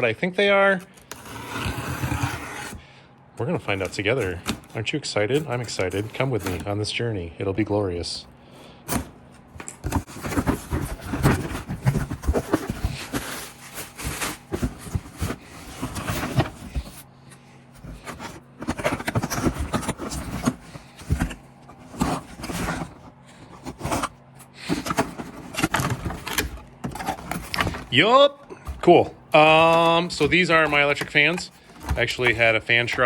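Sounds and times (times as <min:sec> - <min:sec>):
cardboard box being handled and opened: 0:03.6 - 0:06.8, 0:08.9 - 0:17.1, 0:17.8 - 0:33.0.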